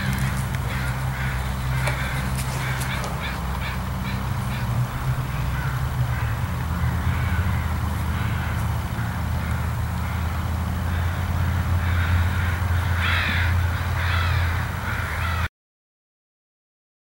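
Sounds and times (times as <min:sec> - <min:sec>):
crows cawing: 0:00.0 - 0:15.5
steady low rumble: 0:00.0 - 0:15.5.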